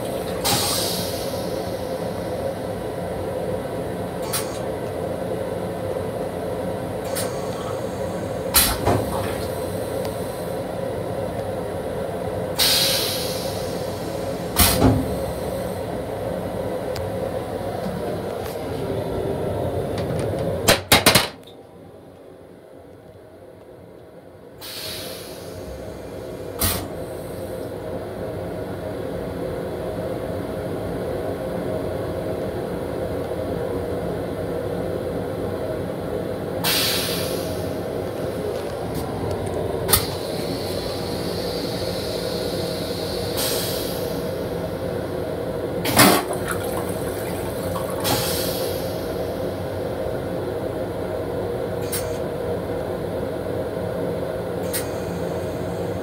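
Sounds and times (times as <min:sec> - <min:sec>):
railcar rumble and hum: 0:00.0 - 0:56.0.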